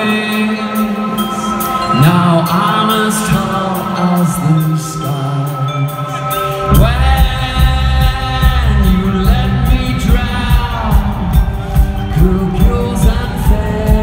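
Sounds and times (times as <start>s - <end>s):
man singing lead vocal: 0.0s - 14.0s
rock band playing live: 0.0s - 14.0s.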